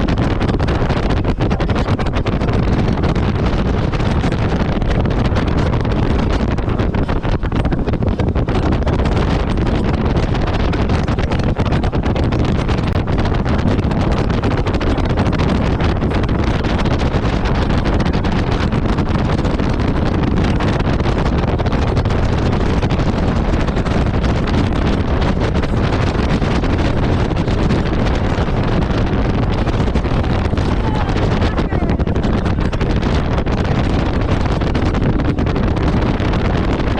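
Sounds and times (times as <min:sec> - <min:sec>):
jet ski engine running: 0:00.0 - 0:36.9
wind buffeting microphone: 0:00.0 - 0:36.9.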